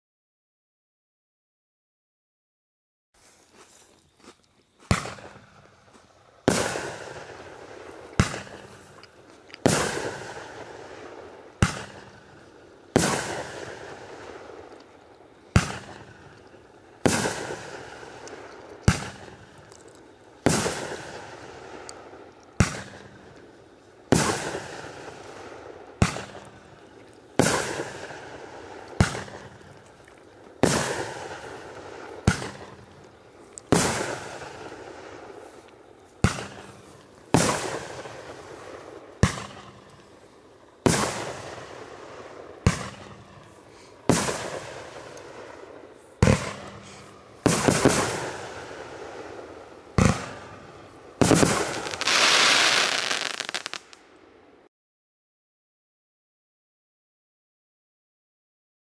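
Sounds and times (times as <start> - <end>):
firework aerial bursts: 4.8 - 54.0.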